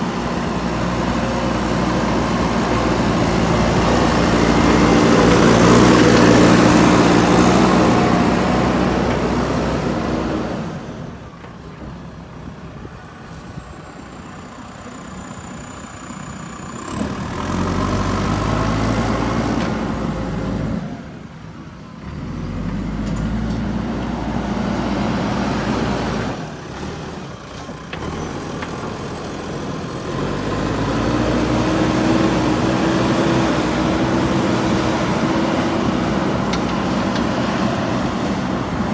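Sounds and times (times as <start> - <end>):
diesel engine revving: 0.0 - 38.9.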